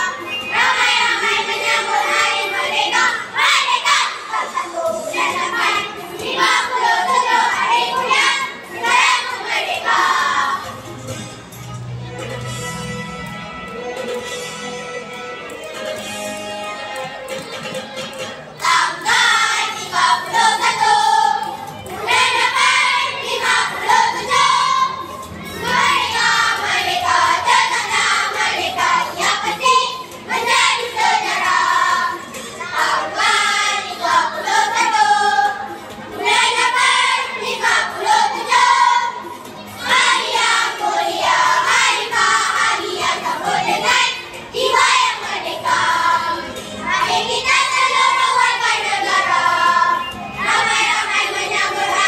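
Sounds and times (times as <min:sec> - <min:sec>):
children's choir singing: 0:00.0 - 0:11.2, 0:16.6 - 0:52.0.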